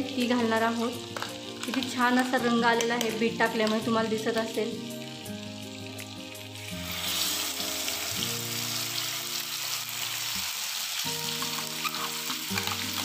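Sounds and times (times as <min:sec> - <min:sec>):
puree sizzling in hot oil: 0:00.0 - 0:13.0.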